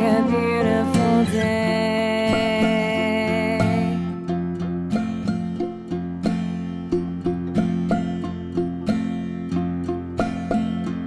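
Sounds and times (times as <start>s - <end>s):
acoustic guitar strumming: 0.0s - 11.0s
bowed fiddle: 0.0s - 11.0s.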